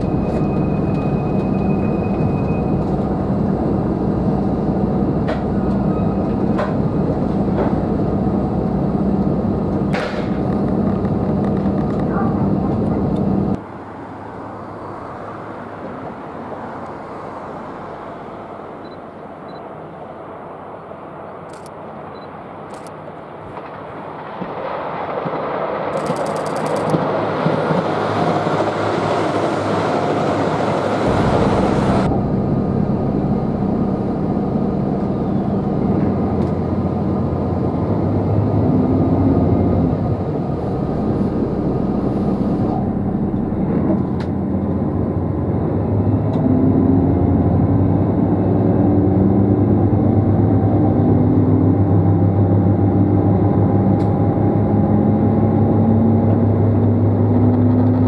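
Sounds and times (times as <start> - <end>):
diesel engine hum rising in pitch: 0.0 - 19.6, 27.4 - 58.0
train rushing along track: 0.0 - 58.0.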